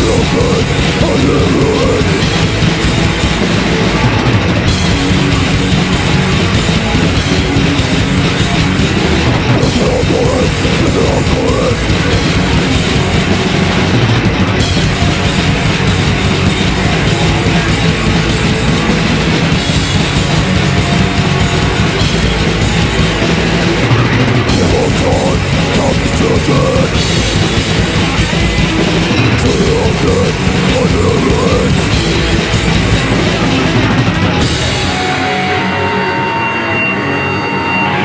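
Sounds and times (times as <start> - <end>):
heavy rock band playing live: 0.0 - 38.0.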